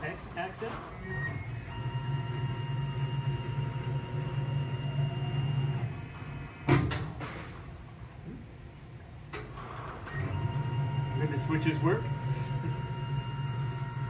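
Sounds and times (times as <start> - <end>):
mill motor hum and whine: 0.7 - 14.0.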